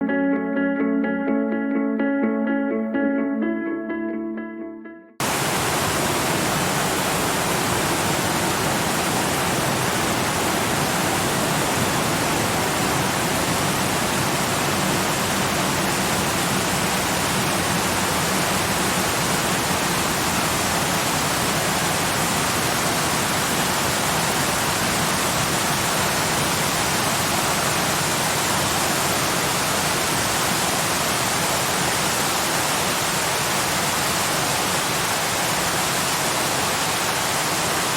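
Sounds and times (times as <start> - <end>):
waterfall rushing: 5.2 - 37.9.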